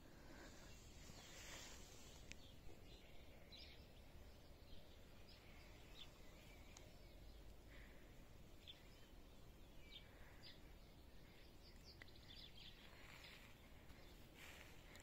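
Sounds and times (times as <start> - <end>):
low steady background hum: 0.0 - 15.0
songbirds chirping and trilling: 0.0 - 15.0.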